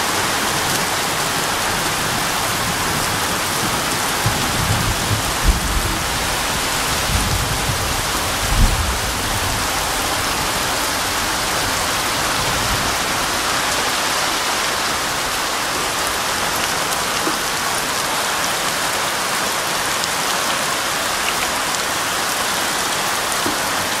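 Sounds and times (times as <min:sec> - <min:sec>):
heavy rain hissing: 0:00.0 - 0:24.0.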